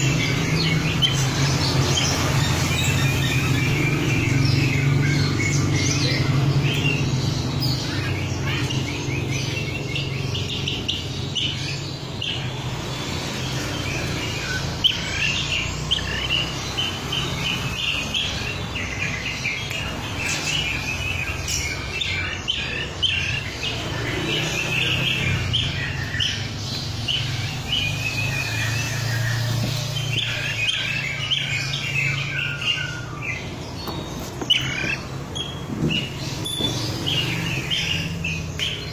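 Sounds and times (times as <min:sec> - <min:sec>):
bird high chirps: 0:00.0 - 0:38.9.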